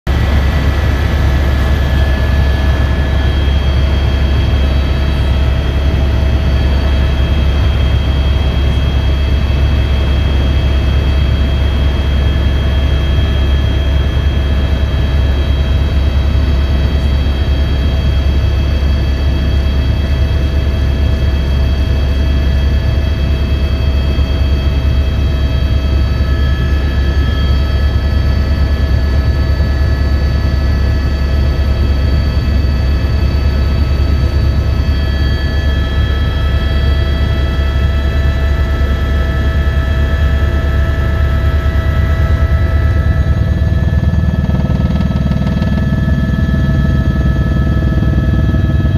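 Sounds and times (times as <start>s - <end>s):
higher whine: 0.1s - 19.1s, 24.0s - 48.9s
helicopter cabin drone: 0.1s - 48.9s
turbine whine: 0.1s - 48.9s.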